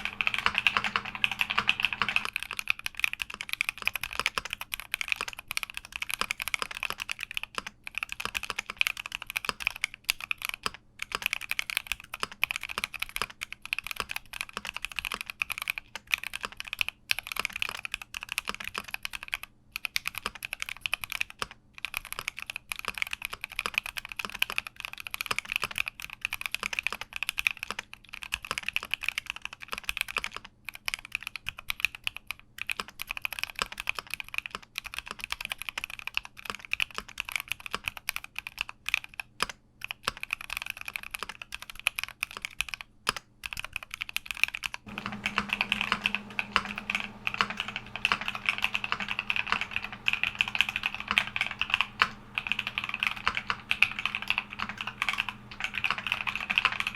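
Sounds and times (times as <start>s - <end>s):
mechanical keyboard typing: 0.0s - 56.9s.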